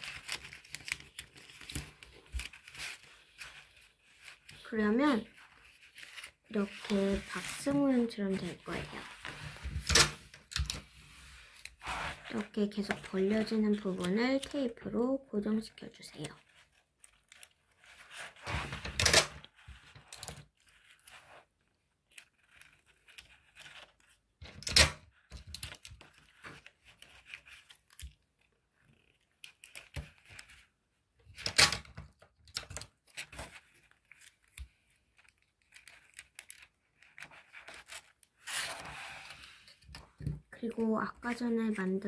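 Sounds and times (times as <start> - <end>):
paper rustling: 0.0 - 14.8, 15.8 - 42.0.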